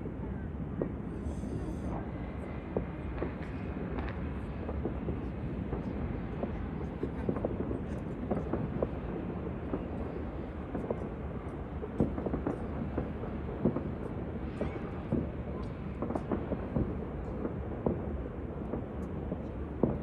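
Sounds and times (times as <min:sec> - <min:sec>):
rumble of firework bursts: 0:00.0 - 0:20.0
firework cracks and pops: 0:02.4 - 0:20.0.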